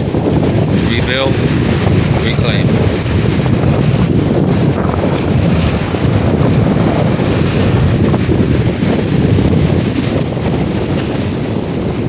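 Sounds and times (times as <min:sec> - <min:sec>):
open water: 0:00.0 - 0:12.0
wind rumbling on microphone: 0:00.0 - 0:12.0.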